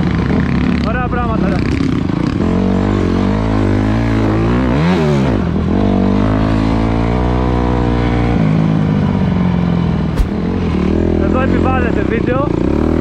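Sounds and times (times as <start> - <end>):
dirt bike engine revving: 0.0 - 8.9, 10.0 - 13.0.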